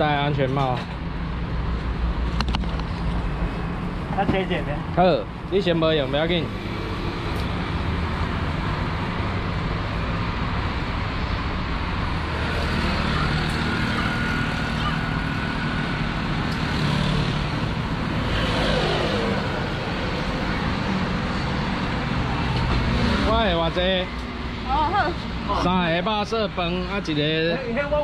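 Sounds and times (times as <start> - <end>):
road traffic passing: 0.0 - 28.0.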